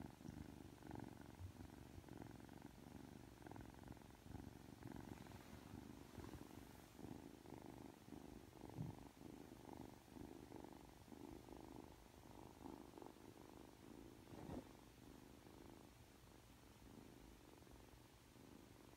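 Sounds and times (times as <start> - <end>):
kitten purring: 0.0 - 18.9.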